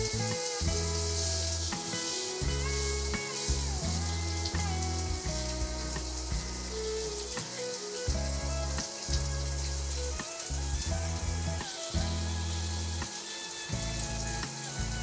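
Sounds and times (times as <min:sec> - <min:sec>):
background music: 0:00.0 - 0:15.0
vegetables sizzling in a pan: 0:00.0 - 0:15.0.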